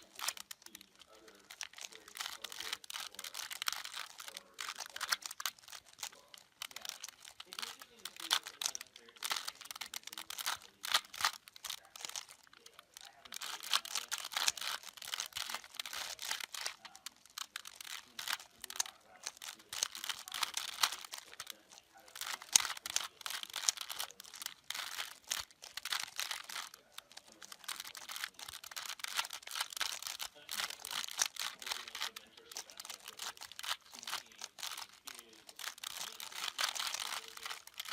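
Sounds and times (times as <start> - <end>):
puzzle cube clicking: 0.0 - 37.9.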